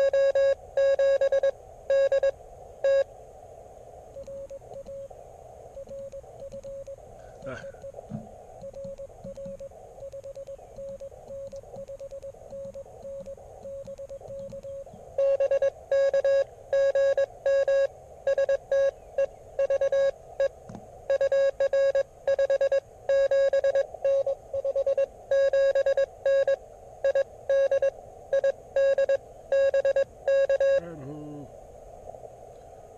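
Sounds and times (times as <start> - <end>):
morse code tones from speaker: 0.0 - 3.1, 4.2 - 5.1, 5.8 - 19.0, 19.6 - 31.2.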